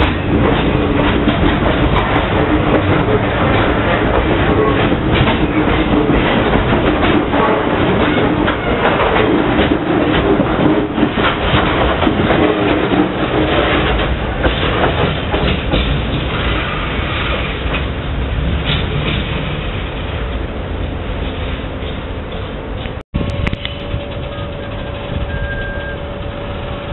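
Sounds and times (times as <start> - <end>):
train rumble: 0.0 - 26.9
train wheels clattering over rail joints: 0.0 - 26.9.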